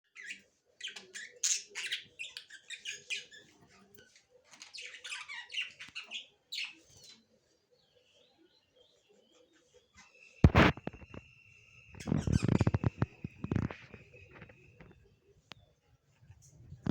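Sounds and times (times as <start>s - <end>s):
birds squawking and chirping: 0.1s - 7.3s, 7.9s - 15.0s.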